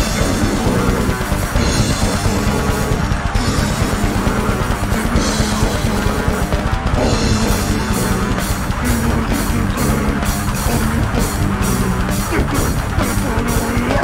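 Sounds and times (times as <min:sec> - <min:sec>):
bass: 0:00.0 - 0:14.0
distorted electric guitar riff: 0:00.0 - 0:14.0
drums: 0:00.0 - 0:14.0.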